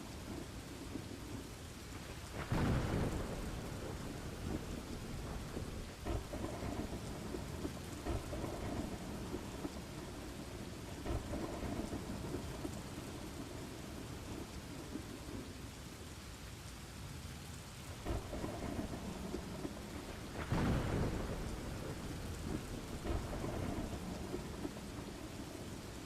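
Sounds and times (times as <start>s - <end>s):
thunder rumbling: 0.0s - 15.7s, 17.9s - 26.0s
steady rain: 0.0s - 26.0s.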